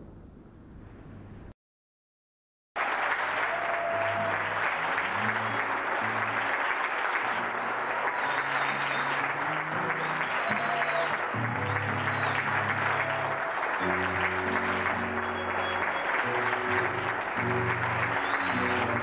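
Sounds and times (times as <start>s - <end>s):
audience applauding: 2.8s - 19.0s.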